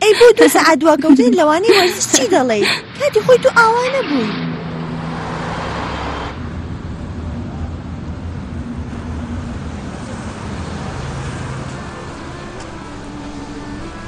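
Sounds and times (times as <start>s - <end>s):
low engine rumble: 0.0s - 14.0s
vehicle rushing by: 1.7s - 14.0s.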